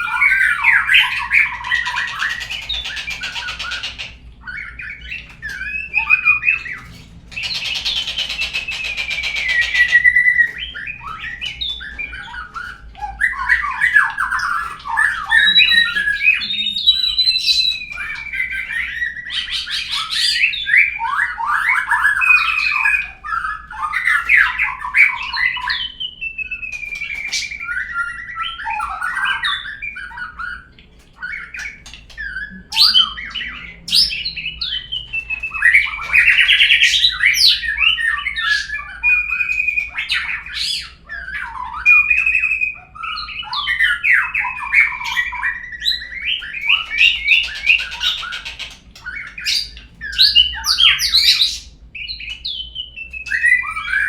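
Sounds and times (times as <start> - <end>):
bird song whistles and trills: 0.0 - 54.0.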